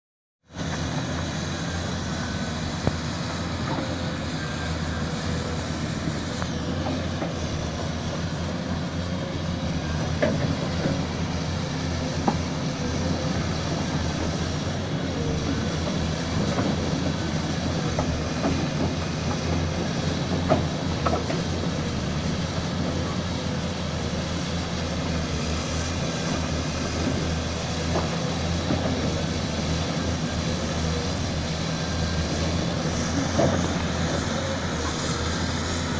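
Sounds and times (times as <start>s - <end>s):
deep diesel engine drone: 0.4s - 35.9s.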